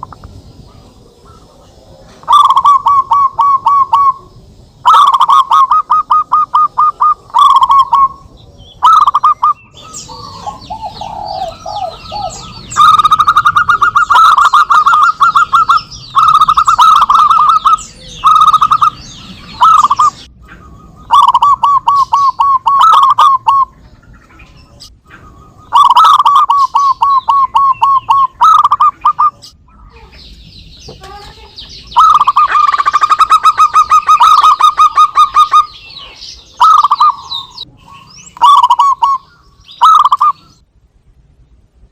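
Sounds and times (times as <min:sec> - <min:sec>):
doves cooing: 0:00.0 - 0:30.2, 0:30.9 - 0:40.6
high-pitched chirping: 0:02.2 - 0:40.6.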